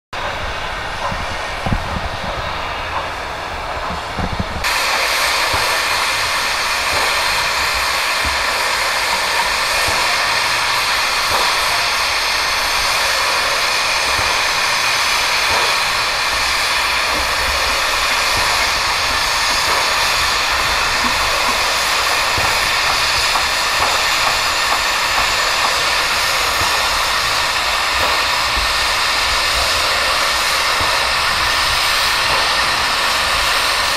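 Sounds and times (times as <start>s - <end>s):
steam hissing: 0.2s - 33.9s.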